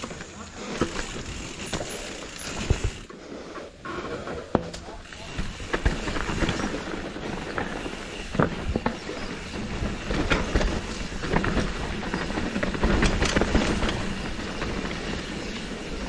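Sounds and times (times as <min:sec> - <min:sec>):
bike chain and frame rattling: 0:00.0 - 0:03.1, 0:05.0 - 0:16.0.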